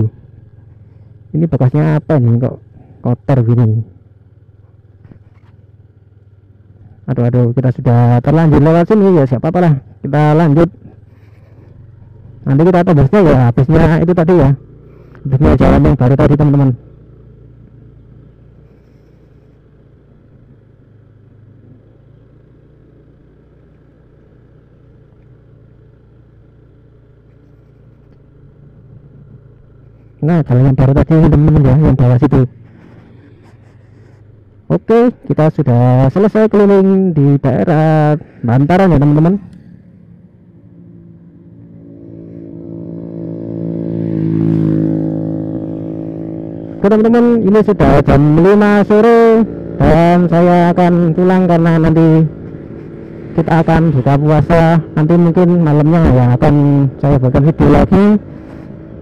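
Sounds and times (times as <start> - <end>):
road noise: 0.0 - 59.0
scooter engine running: 0.0 - 59.0.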